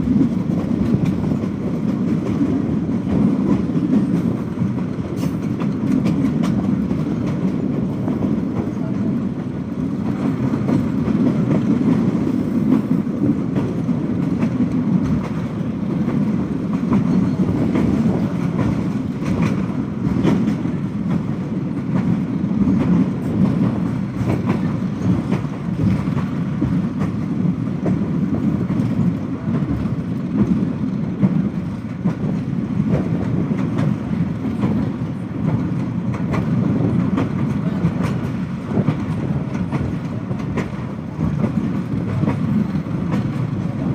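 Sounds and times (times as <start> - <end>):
train coach rumbling: 0.0 - 43.9
wheels clicking over rail joints: 0.1 - 43.9.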